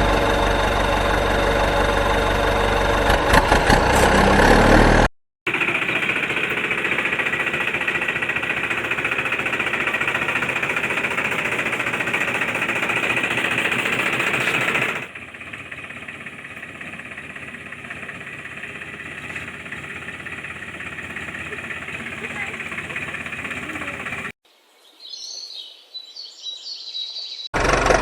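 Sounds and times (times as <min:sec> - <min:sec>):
engine running with fast rattle: 0:00.0 - 0:24.4, 0:27.6 - 0:28.0.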